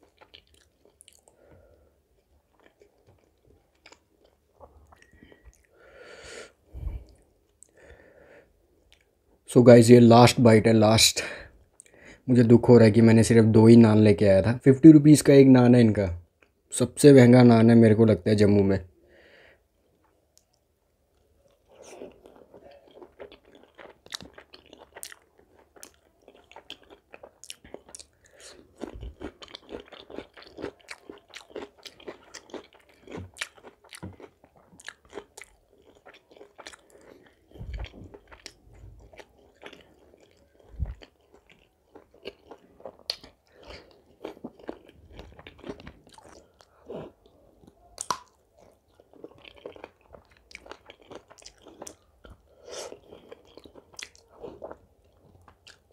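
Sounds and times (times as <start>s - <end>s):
person chewing food: 0.0s - 9.3s, 19.9s - 55.9s.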